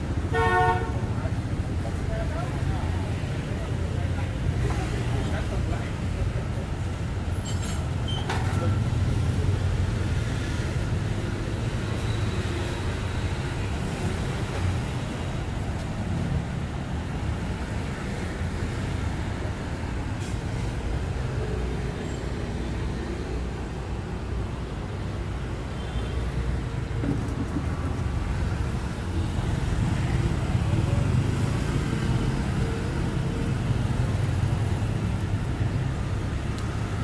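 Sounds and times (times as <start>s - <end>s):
passing vehicles rumble: 0.0s - 37.0s.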